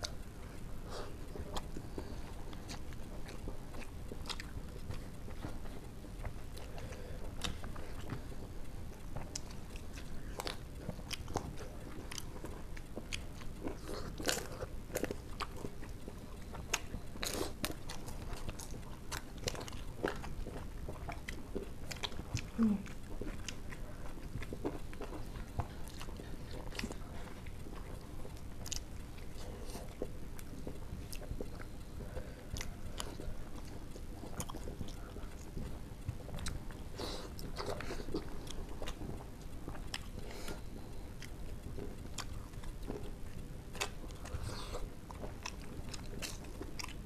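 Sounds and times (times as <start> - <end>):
people chewing and eating: 0.0 - 47.0.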